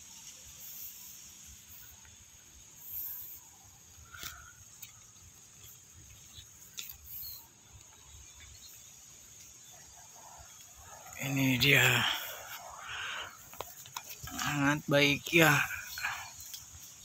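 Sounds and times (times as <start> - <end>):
high insect chorus: 0.0 - 17.0.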